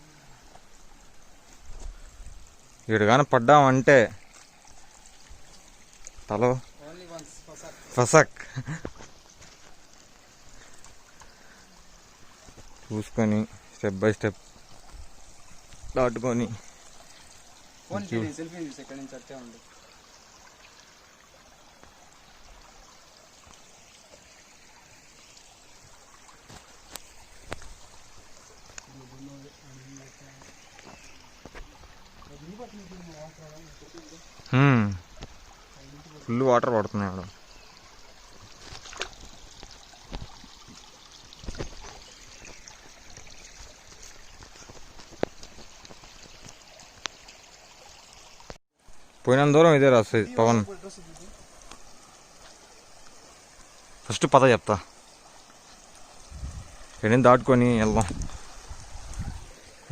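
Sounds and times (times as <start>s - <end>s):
stream water trickling over rocks: 0.0s - 59.9s.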